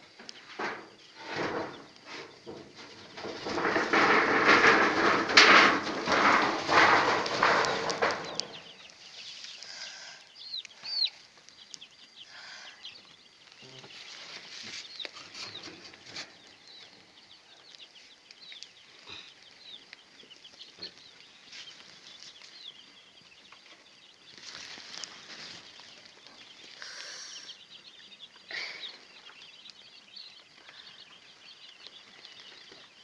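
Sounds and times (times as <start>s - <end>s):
chicks peeping: 0.0s - 33.0s.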